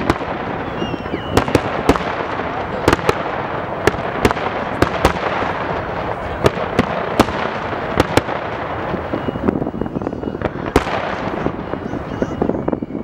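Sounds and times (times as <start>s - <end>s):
firework shells bursting: 0.0s - 11.9s
dense firework crackle: 0.0s - 13.0s.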